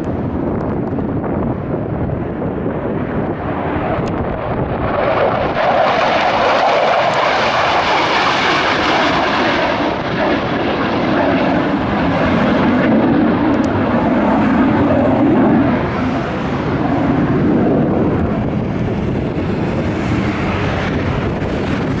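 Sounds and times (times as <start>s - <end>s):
fighter jet taking off: 0.0s - 22.0s.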